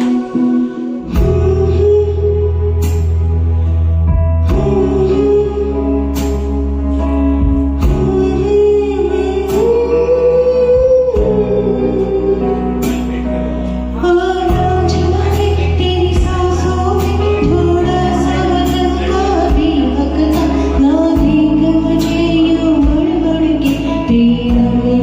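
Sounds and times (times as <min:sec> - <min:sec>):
woman singing slow song: 0:00.0 - 0:03.7, 0:04.4 - 0:25.0
instrumental accompaniment with beat: 0:00.0 - 0:25.0.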